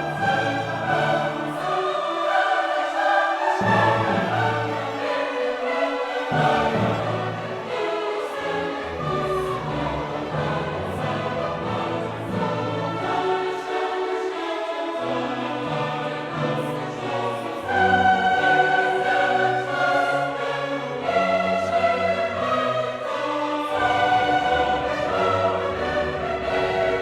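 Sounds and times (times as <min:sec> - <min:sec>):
choir singing with orchestra: 0:00.0 - 0:27.0.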